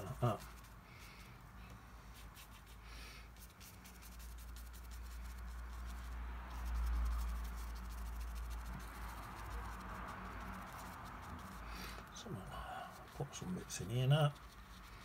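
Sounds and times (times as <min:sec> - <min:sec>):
brush scratching on paper: 0:00.0 - 0:01.4, 0:02.0 - 0:15.0.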